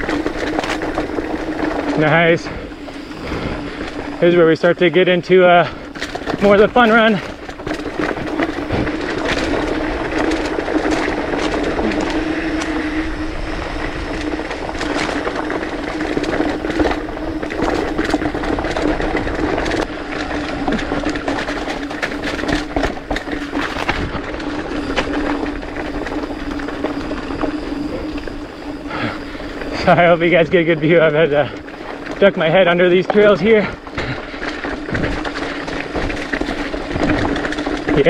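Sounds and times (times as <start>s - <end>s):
bike clacking and rattling: 0.0s - 38.0s
bike tyres rolling over dirt: 0.0s - 38.0s
steady hum: 0.0s - 38.0s.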